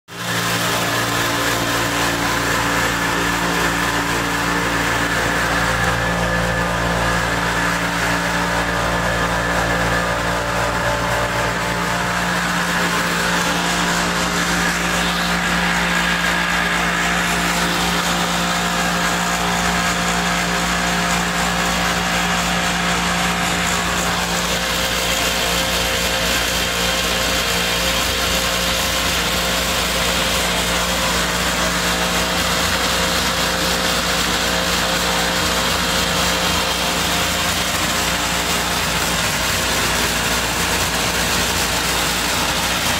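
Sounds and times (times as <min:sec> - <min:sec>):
pellet mill machine hum: 0:00.1 - 0:42.9.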